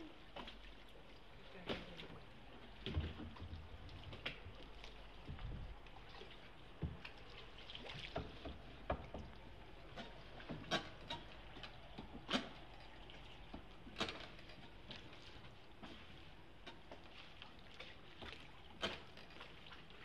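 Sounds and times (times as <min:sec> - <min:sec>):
oar splashing and knocking: 0:00.0 - 0:20.0
water lapping and dripping: 0:00.0 - 0:20.0.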